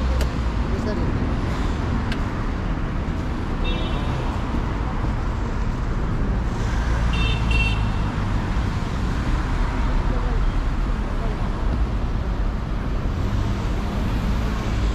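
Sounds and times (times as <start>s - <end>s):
cars passing: 0.0s - 14.9s.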